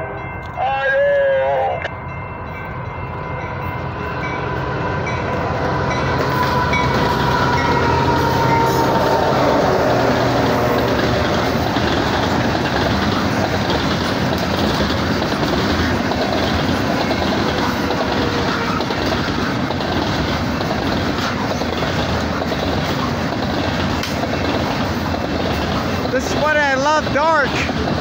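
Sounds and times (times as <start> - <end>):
train wheels rumbling on rail: 1.7 - 28.0.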